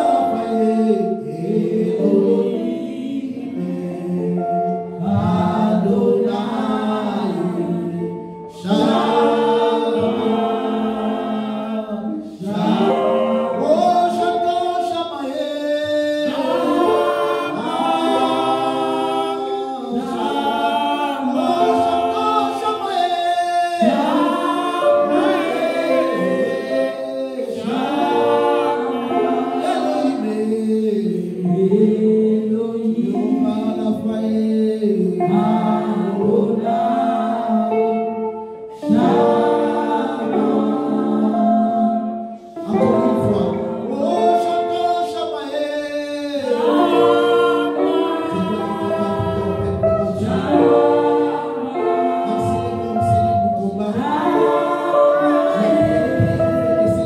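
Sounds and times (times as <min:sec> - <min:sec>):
man singing into microphone: 0:00.0 - 0:57.0.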